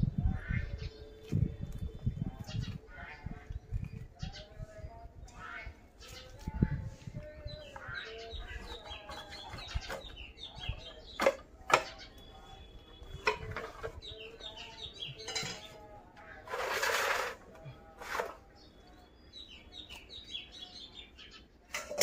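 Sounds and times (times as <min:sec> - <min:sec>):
birds calling and chirping: 0:00.0 - 0:22.0.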